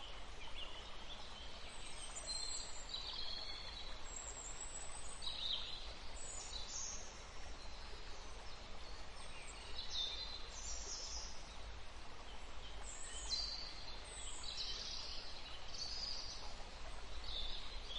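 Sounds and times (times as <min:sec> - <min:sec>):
outdoor background hiss: 0:00.0 - 0:17.9.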